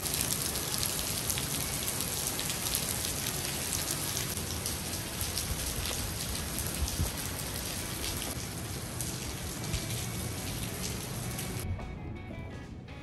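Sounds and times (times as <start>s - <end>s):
rain falling on a surface: 0.0s - 11.6s.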